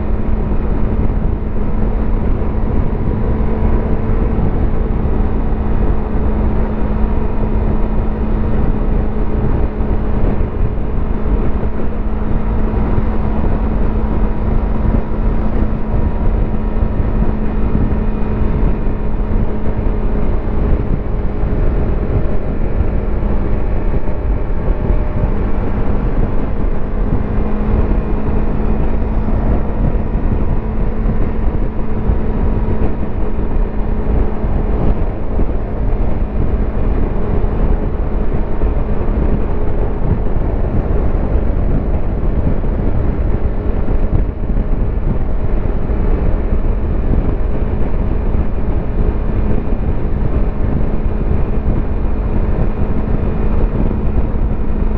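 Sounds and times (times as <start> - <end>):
motorcycle engine cruising: 0.0 - 54.9
wind and road noise: 0.0 - 54.9.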